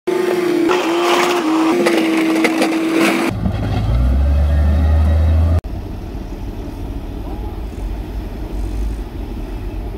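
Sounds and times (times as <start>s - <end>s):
heavy machinery engine: 0.1s - 9.9s.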